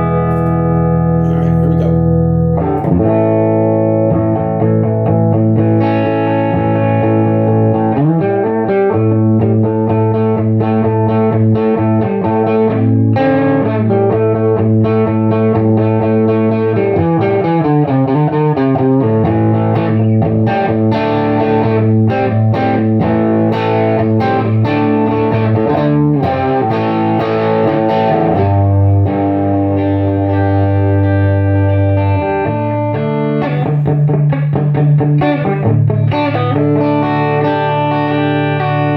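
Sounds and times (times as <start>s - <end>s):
distorted electric guitar chords: 0.0s - 38.9s.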